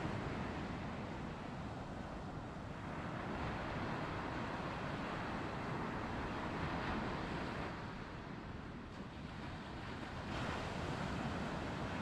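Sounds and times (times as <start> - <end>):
surf washing up beach: 0.0 - 12.0
wind rumbling on microphone: 0.0 - 12.0.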